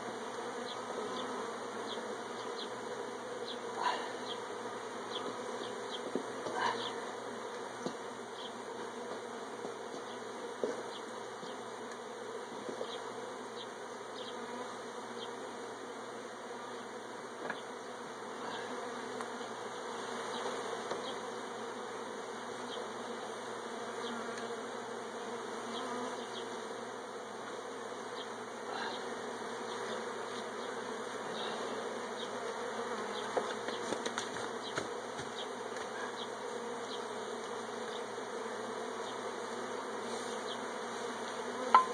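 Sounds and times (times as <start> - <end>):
honeybees buzzing: 0.0 - 41.9.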